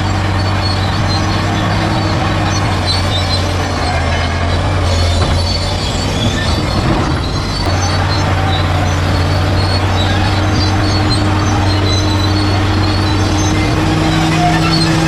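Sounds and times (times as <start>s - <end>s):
bulldozer diesel engine running: 0.0s - 15.0s
metallic squeals of crawler tracks: 0.0s - 15.0s.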